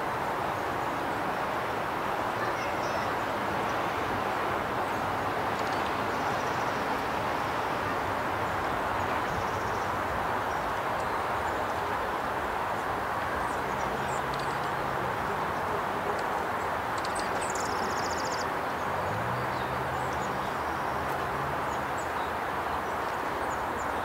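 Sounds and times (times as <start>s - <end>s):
steady rushing outdoor noise: 0.0s - 24.0s.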